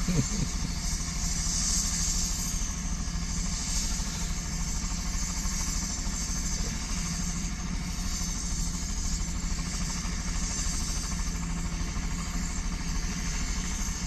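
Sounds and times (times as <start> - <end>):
helicopter engine hum: 0.0 - 14.0
helicopter rotor beating: 0.0 - 14.0.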